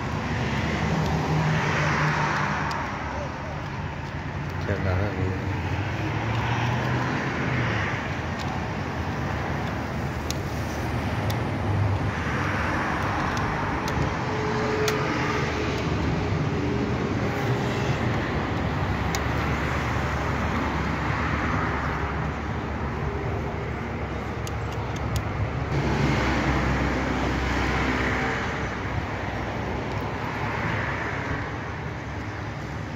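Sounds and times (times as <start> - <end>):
road traffic: 0.0 - 32.9.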